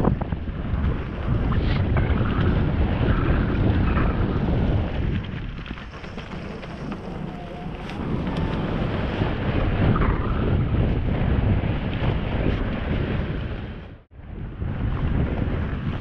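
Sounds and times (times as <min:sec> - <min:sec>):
bike rattling: 0:00.0 - 0:13.9
bike tyres rumbling on dirt: 0:00.0 - 0:16.0
wind buffeting microphone: 0:00.0 - 0:16.0.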